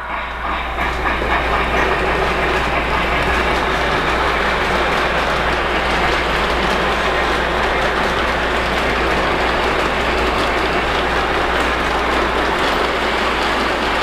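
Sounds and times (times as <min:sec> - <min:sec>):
model train wheels clattering: 0:00.4 - 0:14.0.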